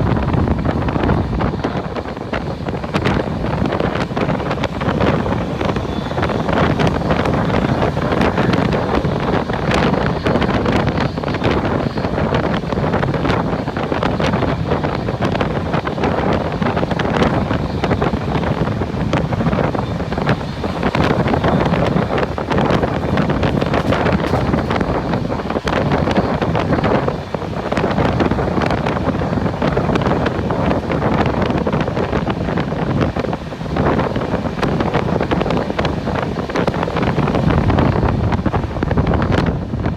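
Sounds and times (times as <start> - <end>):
train running rumble: 0.0 - 39.9
wind buffeting microphone: 0.0 - 39.9.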